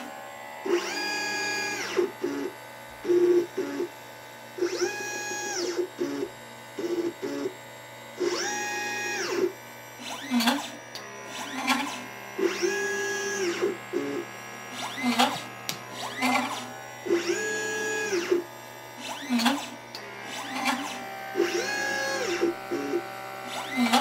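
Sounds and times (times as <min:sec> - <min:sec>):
stepper motor whine: 0:00.0 - 0:24.0.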